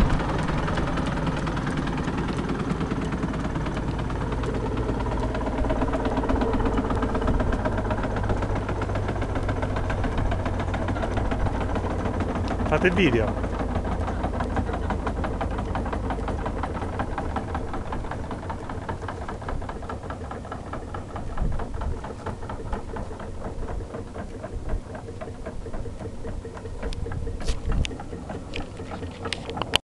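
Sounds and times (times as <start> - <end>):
threshing machine rattling: 0.0 - 29.8.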